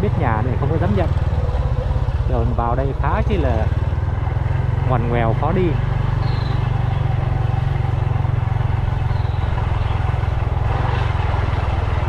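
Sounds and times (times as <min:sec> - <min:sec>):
motorbike engine rumbling: 0:00.0 - 0:12.0.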